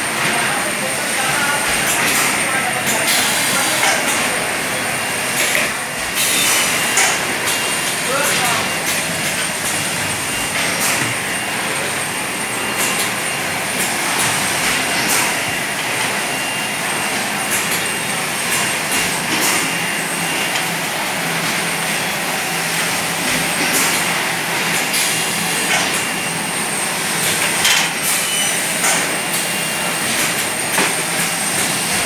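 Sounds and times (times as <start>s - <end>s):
bottling machine hissing: 0.0s - 32.0s.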